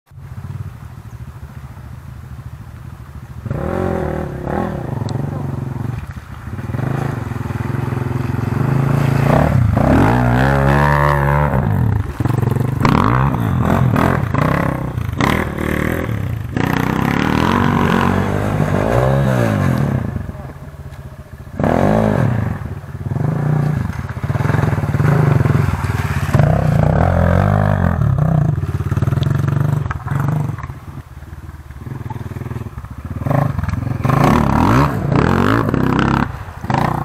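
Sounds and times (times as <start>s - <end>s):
dirt bike engines revving: 0.3s - 37.0s.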